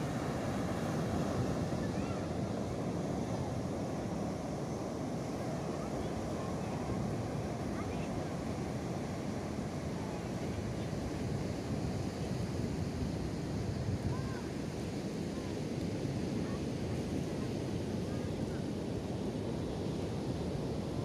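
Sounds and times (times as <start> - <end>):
surf breaking on beach: 0.0 - 21.0.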